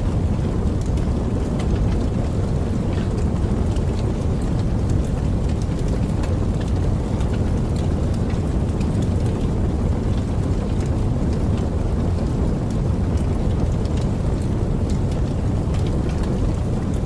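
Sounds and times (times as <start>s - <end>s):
campfire rumbling: 0.0s - 17.0s
fire crackles and pops: 0.0s - 17.0s.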